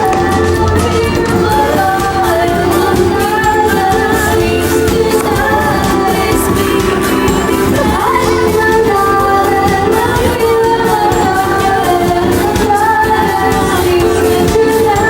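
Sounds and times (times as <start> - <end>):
pop music with singing: 0.0 - 15.0.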